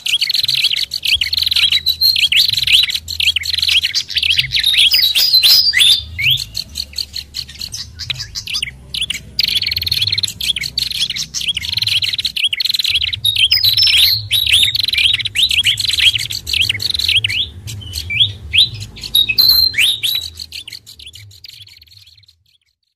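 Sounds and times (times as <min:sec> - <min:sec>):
low hum: 0:00.0 - 0:22.1
songbirds chirping and trilling: 0:00.0 - 0:22.9.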